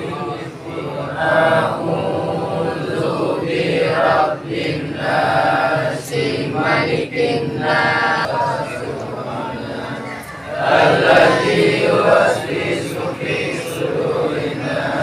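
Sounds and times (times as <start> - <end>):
men chanting a prayer: 0.0 - 15.0.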